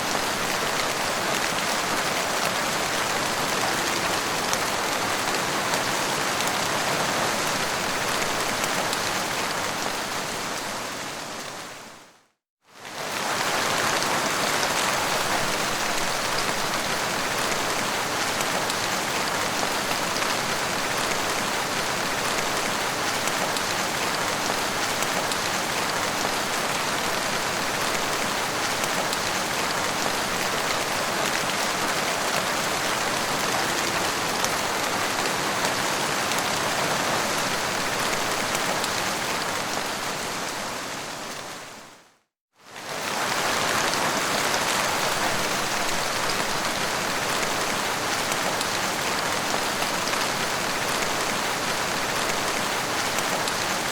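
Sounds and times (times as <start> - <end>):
dense rain falling: 0.0 - 53.9.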